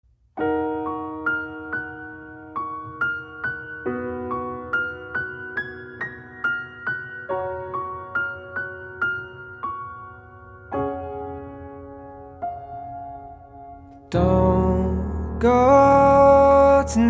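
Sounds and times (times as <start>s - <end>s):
slow piano music: 0.1s - 17.0s.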